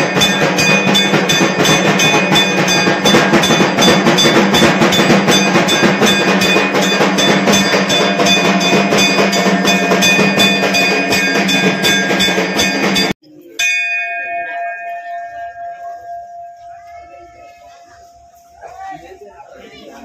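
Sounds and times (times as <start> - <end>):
single bell ringing out: 0.0 - 18.8
bells ringing and clanging: 0.0 - 20.0
percussion: 0.0 - 20.0.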